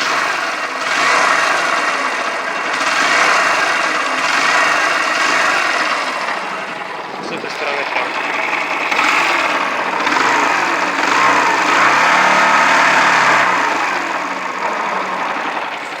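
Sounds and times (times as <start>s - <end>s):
motorcycle engine knocking and revving: 0.0s - 16.0s.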